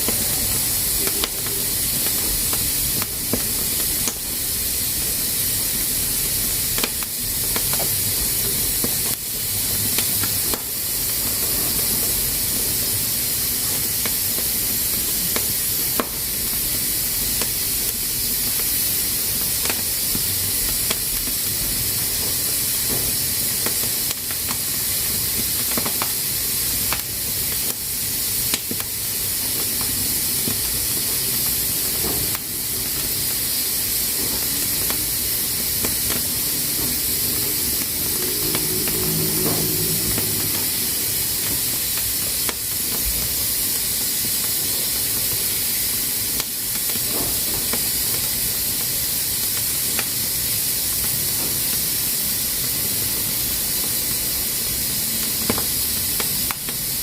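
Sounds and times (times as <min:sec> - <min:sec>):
pressure cooker hissing steam: 0:00.0 - 0:57.0.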